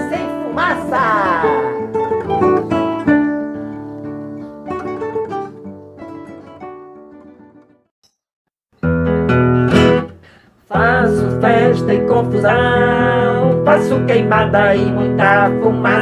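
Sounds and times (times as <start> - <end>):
acoustic guitar chords ringing: 0.0 - 7.7, 8.8 - 16.0.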